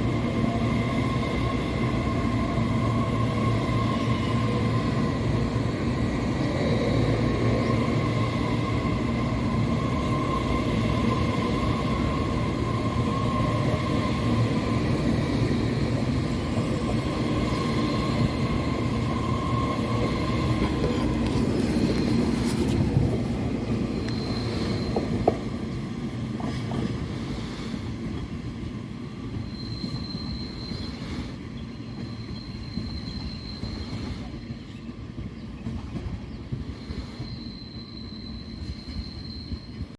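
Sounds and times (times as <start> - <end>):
electric train rumble and whine: 0.0 - 39.9.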